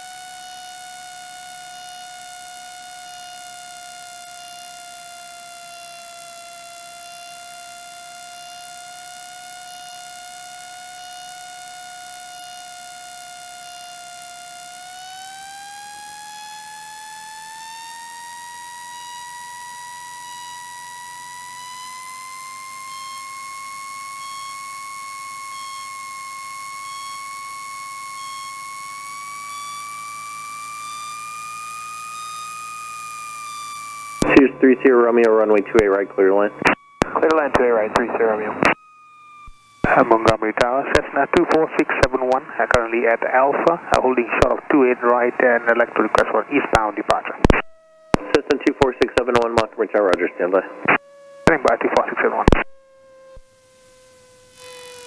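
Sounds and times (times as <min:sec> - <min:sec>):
high whine in cockpit: 0:00.0 - 0:55.0.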